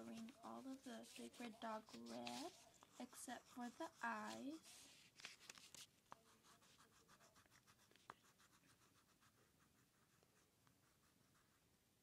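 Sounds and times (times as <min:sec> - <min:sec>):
crayon scratching on paper: 0:00.0 - 0:11.6.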